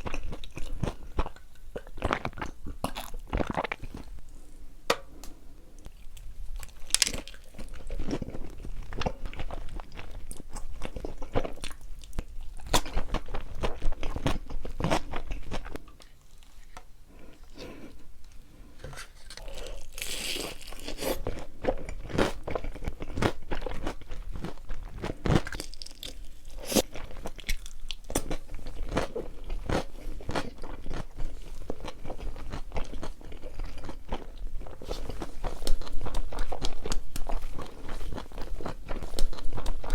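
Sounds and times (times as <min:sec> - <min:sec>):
chewing and crunching pizza: 0:00.0 - 0:04.2, 0:05.8 - 0:17.9, 0:19.2 - 0:39.9.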